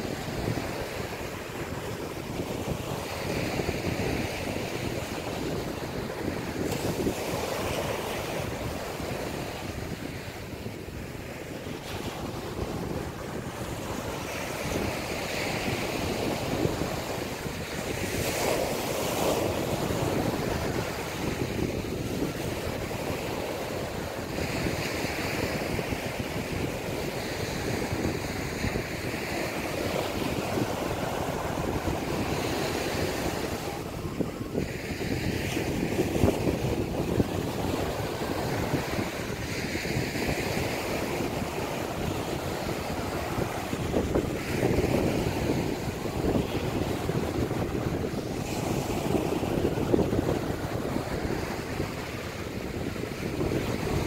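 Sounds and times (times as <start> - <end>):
small waves breaking: 0.0 - 54.0
wind buffeting microphone: 0.0 - 54.0.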